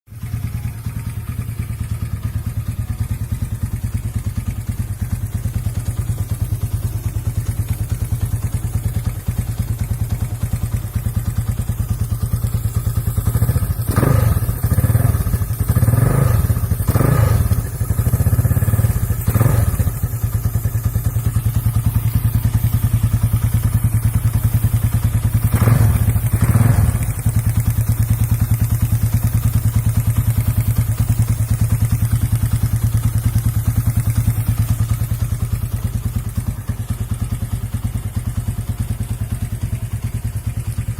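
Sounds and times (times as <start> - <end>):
motorcycle engine idling and revving: 0.1 - 40.9.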